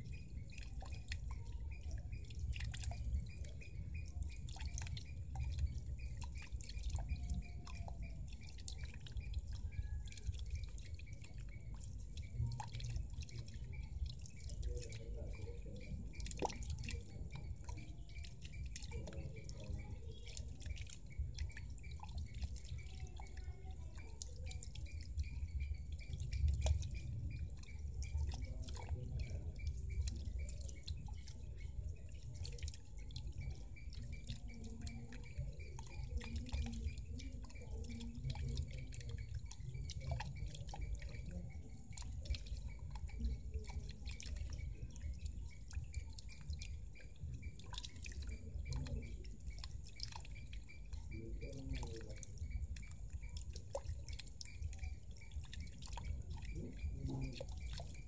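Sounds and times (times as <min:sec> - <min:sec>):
fountain jet splashing into pool: 0:00.0 - 0:58.0.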